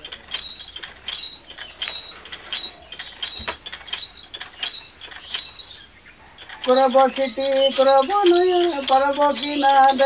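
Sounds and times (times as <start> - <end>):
metal jingles shaken: 0.0 - 10.0.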